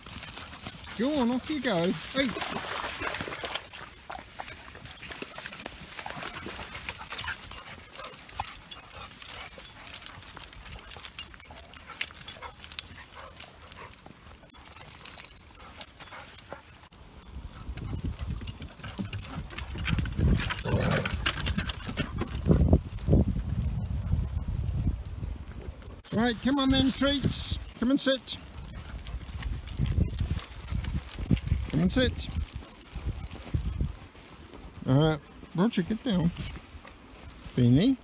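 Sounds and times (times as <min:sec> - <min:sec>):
footsteps on grassy path: 0:00.0 - 0:21.5, 0:22.1 - 0:38.0
dogs' paws on grass: 0:00.0 - 0:38.0.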